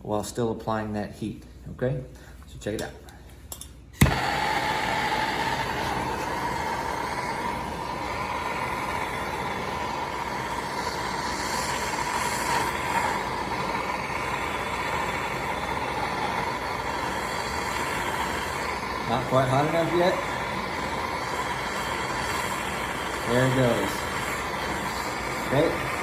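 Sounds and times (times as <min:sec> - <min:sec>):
gas torch flame hissing: 0:04.0 - 0:26.0.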